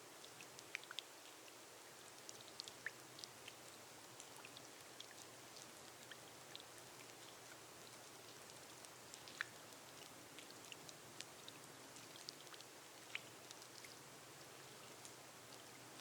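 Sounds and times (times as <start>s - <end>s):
rain on a glass roof: 0.0s - 16.0s.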